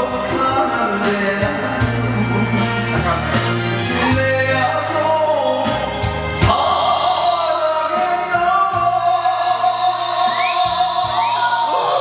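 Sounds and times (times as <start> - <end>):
karaoke backing track: 0.0 - 12.0
man singing karaoke: 0.0 - 12.0.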